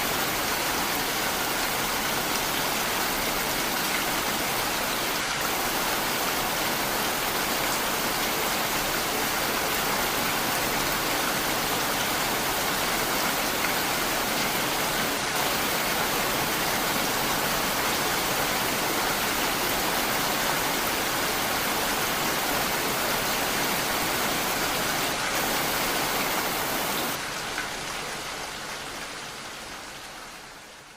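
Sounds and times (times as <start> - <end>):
heavy rain falling: 0.0 - 30.9.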